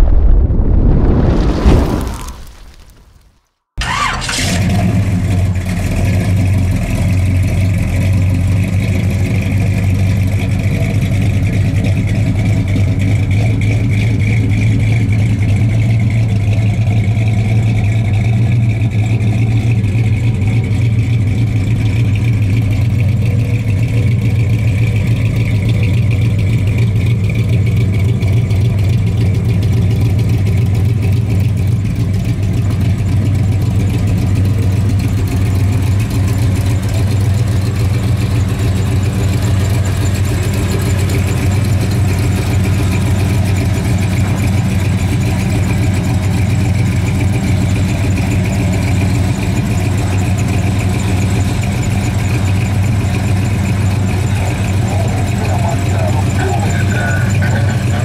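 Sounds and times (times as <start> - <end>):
car engine idling: 3.8 - 58.0.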